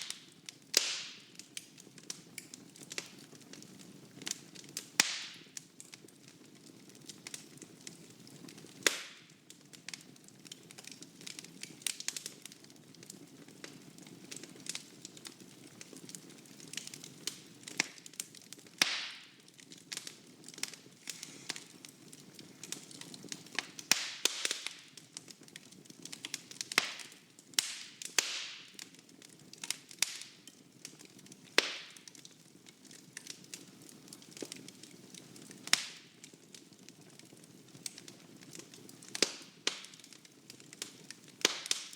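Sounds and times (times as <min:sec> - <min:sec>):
wood fire pops and crackles: 0:00.0 - 0:41.9.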